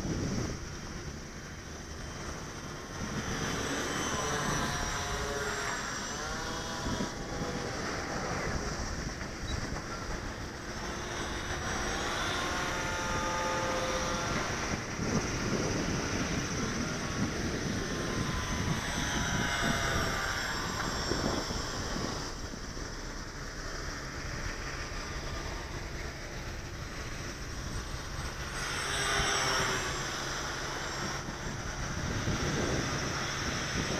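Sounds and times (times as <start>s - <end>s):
model plane motors whining: 0.0s - 33.9s.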